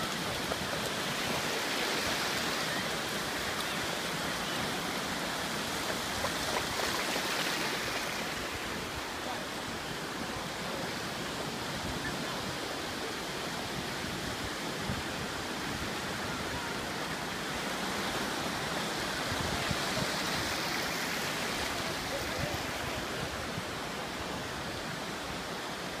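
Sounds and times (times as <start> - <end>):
ocean surf rushing: 0.0 - 26.0.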